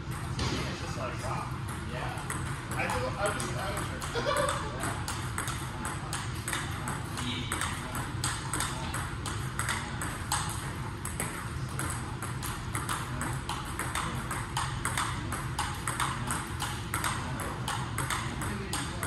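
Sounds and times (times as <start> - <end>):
steady low hum: 0.0 - 19.0
table tennis ball clicks: 2.2 - 19.0.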